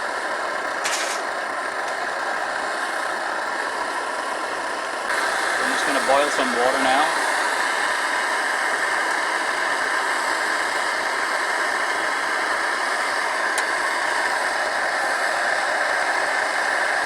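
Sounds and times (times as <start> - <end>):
stove flame hissing: 0.0 - 17.0.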